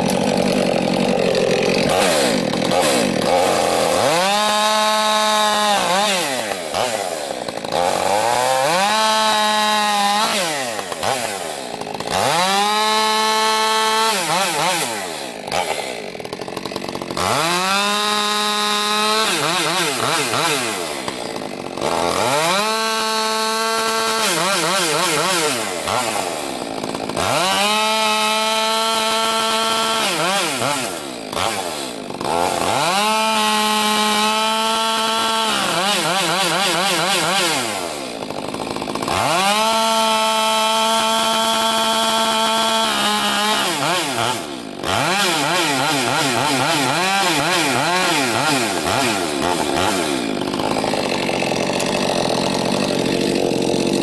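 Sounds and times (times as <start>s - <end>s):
chainsaw cutting logs: 0.0s - 54.0s.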